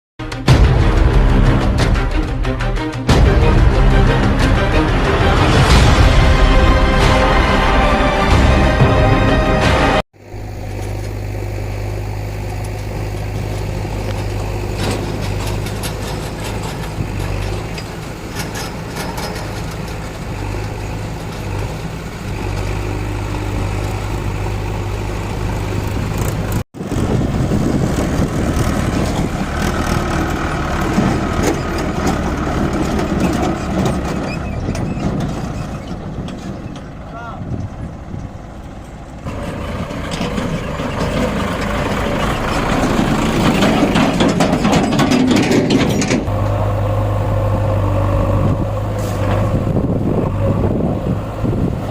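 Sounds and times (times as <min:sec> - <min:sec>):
tractor diesel engine running: 0:10.2 - 0:51.9.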